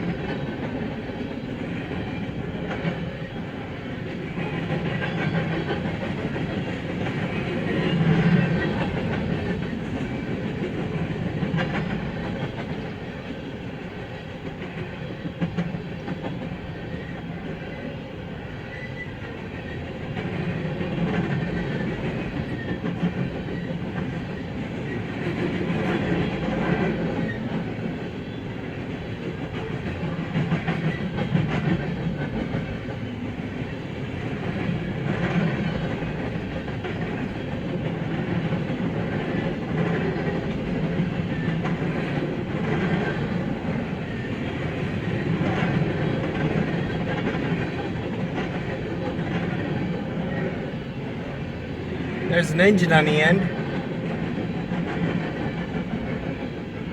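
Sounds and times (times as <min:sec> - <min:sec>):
clickety-clack of wheels: 0:00.0 - 0:52.3, 0:53.4 - 0:56.9
freight train wheel-on-rail noise: 0:00.0 - 0:56.9.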